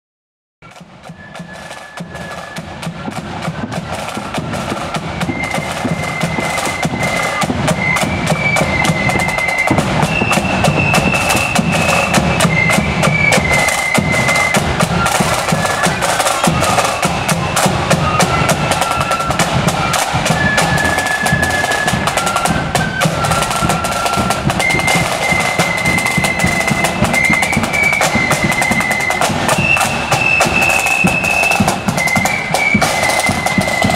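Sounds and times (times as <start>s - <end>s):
flute melody: 0.6s - 33.9s
snare drum rolls: 0.6s - 33.9s.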